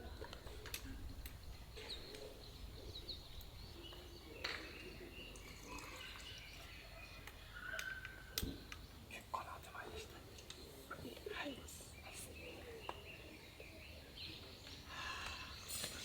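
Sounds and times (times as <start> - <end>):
birds chirping: 0.0 - 16.0
faint outdoor background noise: 0.0 - 16.0.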